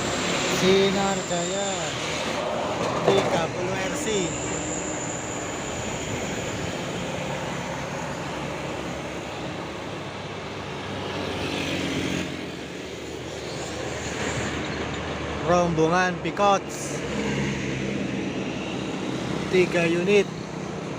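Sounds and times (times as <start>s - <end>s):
bus engine drone: 0.0s - 20.9s.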